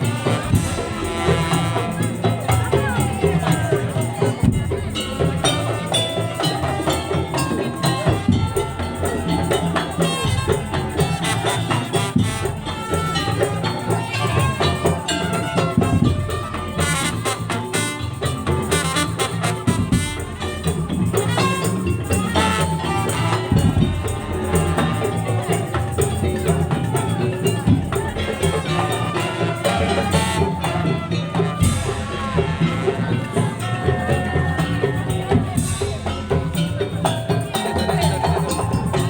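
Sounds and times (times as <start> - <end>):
fast percussion ensemble: 0.0 - 39.0.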